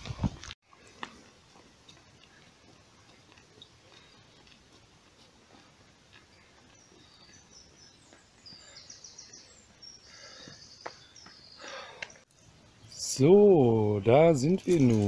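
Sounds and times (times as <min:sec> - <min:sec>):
high birds chirping: 0:02.1 - 0:15.0.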